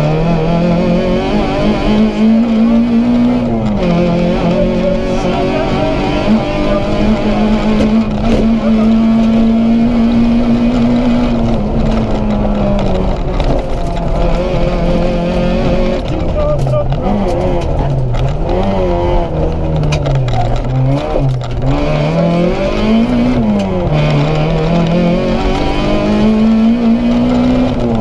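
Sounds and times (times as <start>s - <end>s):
car engine at high revs: 0.0s - 28.0s.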